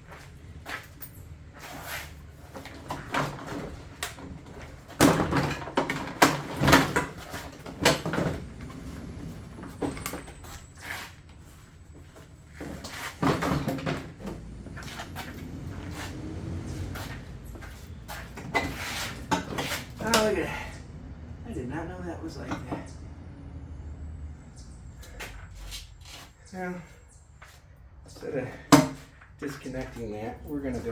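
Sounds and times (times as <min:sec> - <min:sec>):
engine parts and tools clunking: 0:00.0 - 0:30.9.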